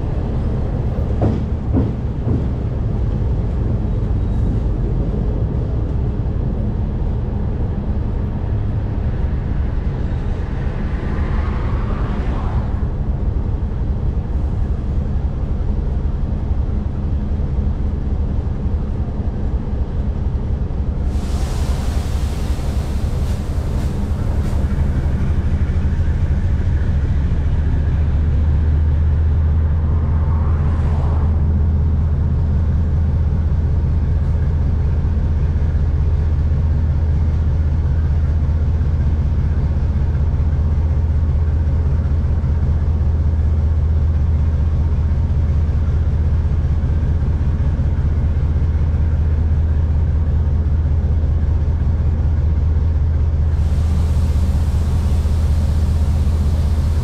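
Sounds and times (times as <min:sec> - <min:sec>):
diesel locomotive engine droning: 0:00.0 - 0:57.0.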